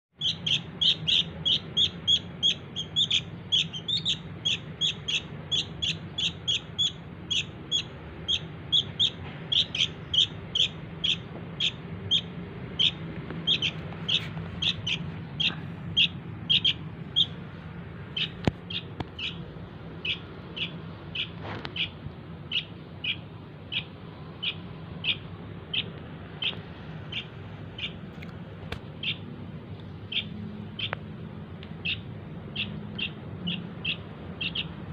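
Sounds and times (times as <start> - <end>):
bird chick chirping: 0.2 - 17.4, 18.0 - 28.0, 29.0 - 29.3, 30.0 - 31.0, 31.8 - 34.9.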